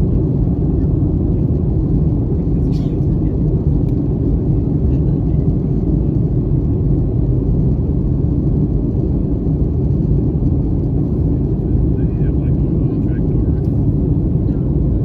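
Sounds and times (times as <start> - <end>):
airflow over fuselage: 0.0 - 15.0
airplane cabin engine rumble: 0.0 - 15.0.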